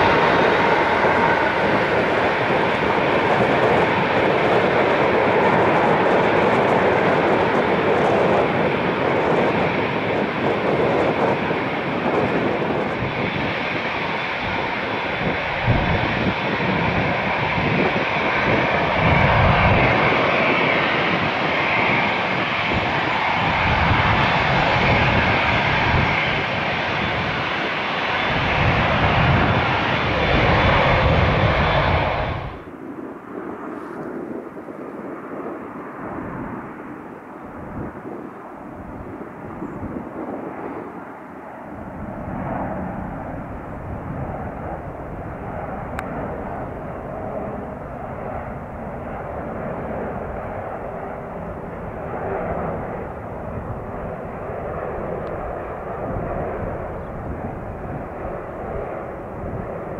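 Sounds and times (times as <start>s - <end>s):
jet airliner engines roaring: 0.0s - 59.9s
wind buffeting microphone: 0.0s - 59.9s.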